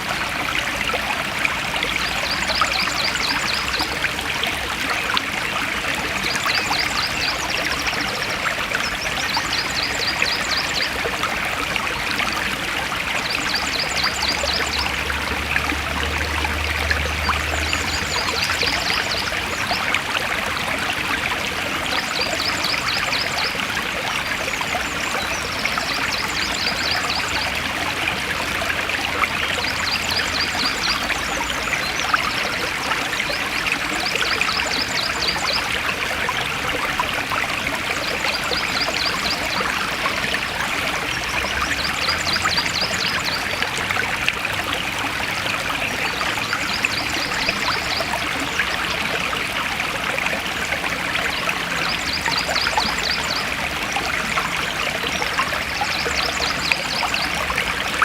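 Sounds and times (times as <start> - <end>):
stream water splashing over rocks: 0.0 - 58.0.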